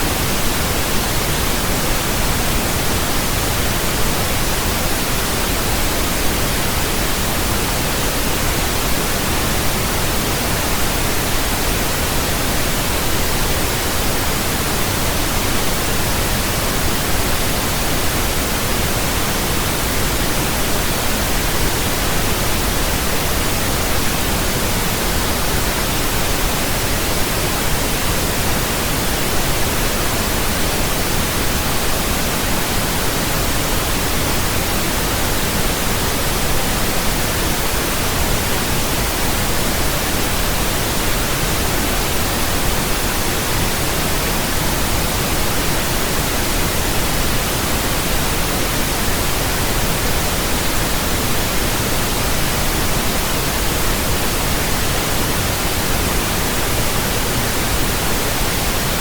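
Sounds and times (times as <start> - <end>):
steady pink noise: 0.0 - 59.0.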